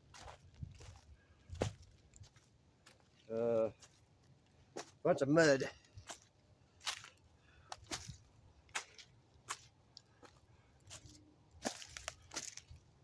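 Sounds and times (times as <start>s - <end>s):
footsteps walking through mud: 0.0s - 13.0s.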